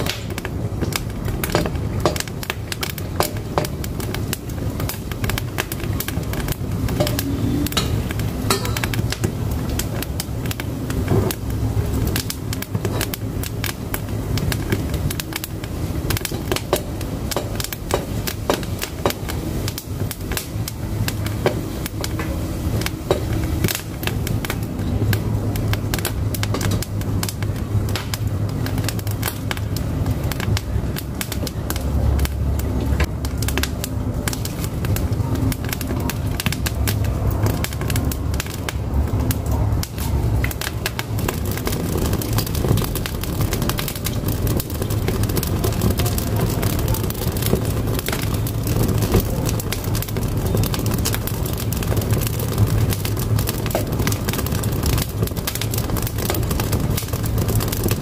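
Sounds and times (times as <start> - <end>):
firewood crackling and popping: 0.0 - 58.0
low rumble of flames: 0.0 - 58.0.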